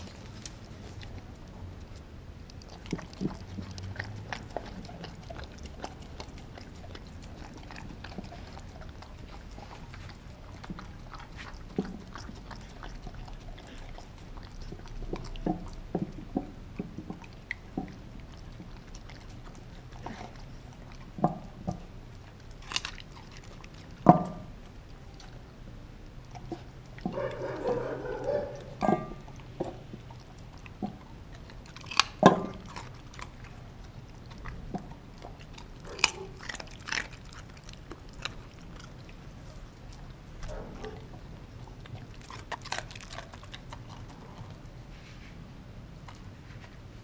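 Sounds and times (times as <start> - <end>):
dog chewing and crunching food: 0.0 - 47.0.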